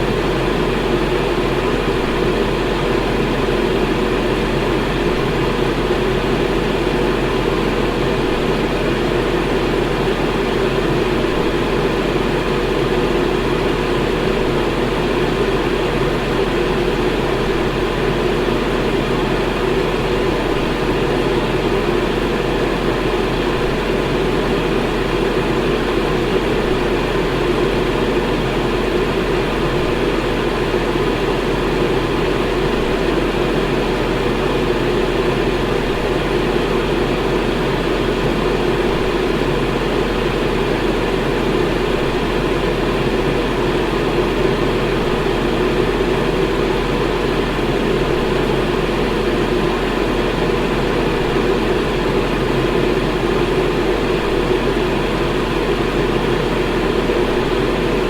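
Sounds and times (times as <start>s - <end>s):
electric fan running: 0.0s - 58.0s.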